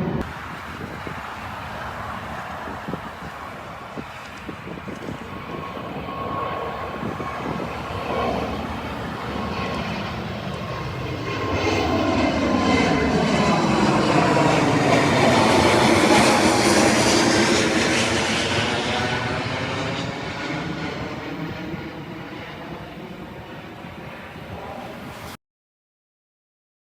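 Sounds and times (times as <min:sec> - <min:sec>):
jet engines passing: 0:00.0 - 0:25.4.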